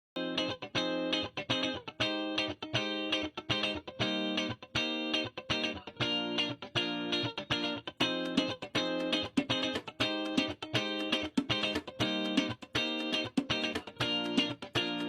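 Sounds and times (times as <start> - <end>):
electric guitar chopped chords: 0.2 - 15.0.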